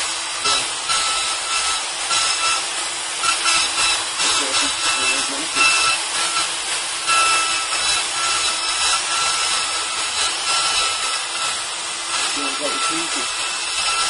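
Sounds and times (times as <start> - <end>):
cutter hissing through material: 0.0 - 14.0
higher cutting tone: 0.0 - 14.0
milling motor whine: 0.0 - 14.0.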